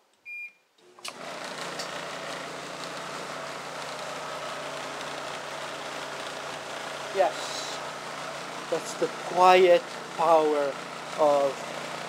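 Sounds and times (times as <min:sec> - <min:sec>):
clothes dryer whirring rumble: 0:01.0 - 0:12.0.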